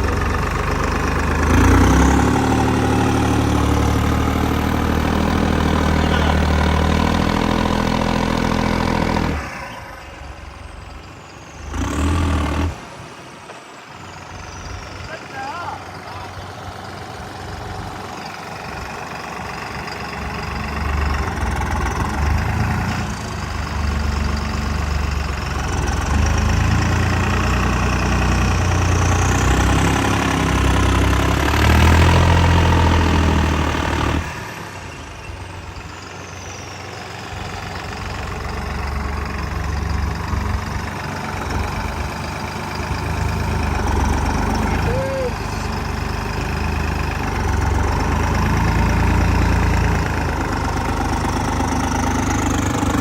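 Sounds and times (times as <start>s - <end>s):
tractor engine labouring: 0.0s - 53.0s.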